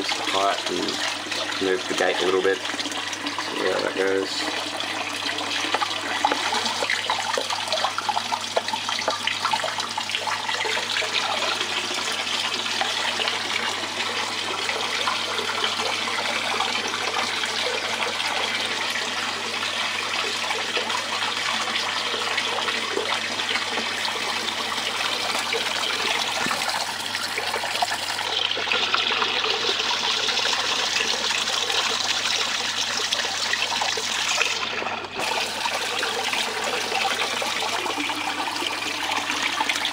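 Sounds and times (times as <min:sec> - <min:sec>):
water running over mat: 0:00.0 - 0:39.9.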